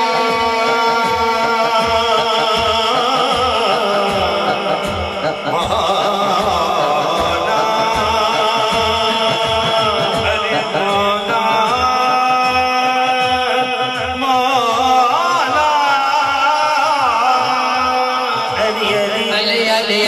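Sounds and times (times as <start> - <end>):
men singing through a pa: 0.0 - 20.0.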